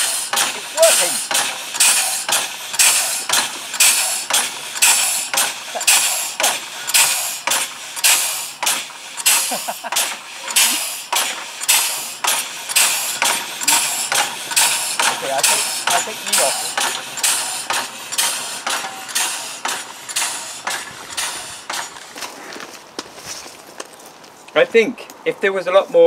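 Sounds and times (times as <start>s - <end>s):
air locomotive hissing puffs: 0.0s - 22.6s.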